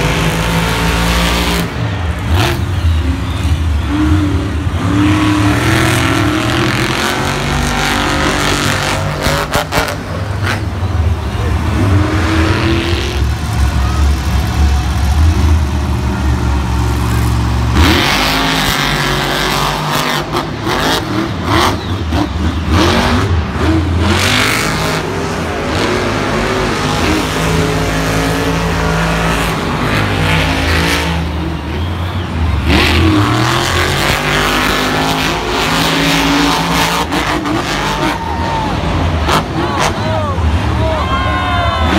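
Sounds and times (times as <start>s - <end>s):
monster truck engines revving: 0.0s - 41.9s.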